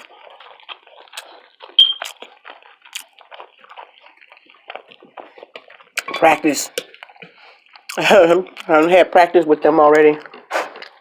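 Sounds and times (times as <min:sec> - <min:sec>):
wet mouth chewing: 0:00.0 - 0:09.2, 0:10.0 - 0:11.0.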